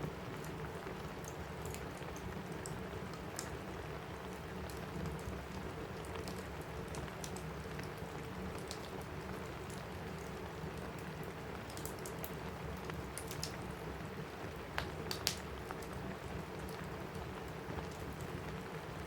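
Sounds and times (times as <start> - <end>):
rain on a roof: 0.0 - 19.0
wood fire crackling: 0.0 - 19.0.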